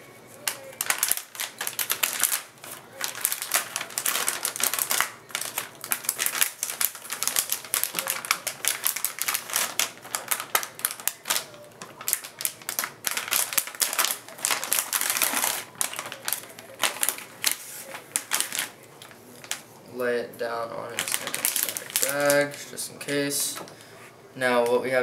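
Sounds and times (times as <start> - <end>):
plastic packaging crinkling: 0.3 - 19.7, 20.8 - 23.7.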